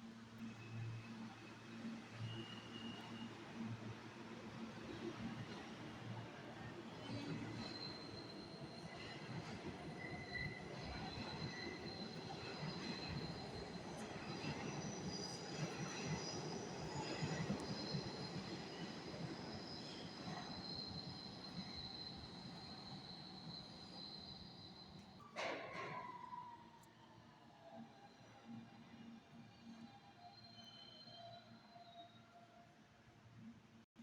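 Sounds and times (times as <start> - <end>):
subway train rumble: 0.0 - 32.9.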